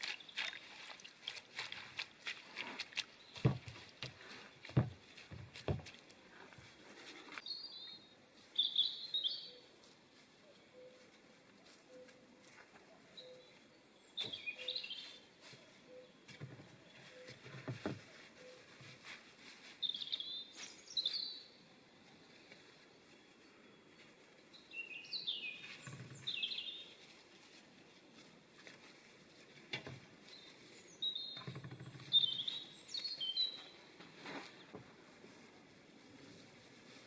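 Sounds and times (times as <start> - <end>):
songbird chirping: 0.0 - 36.2.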